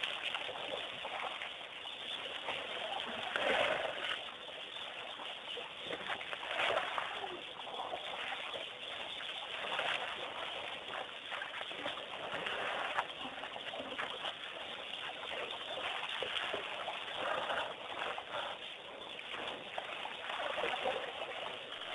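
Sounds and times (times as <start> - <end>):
water and mud splashing: 0.0 - 21.9.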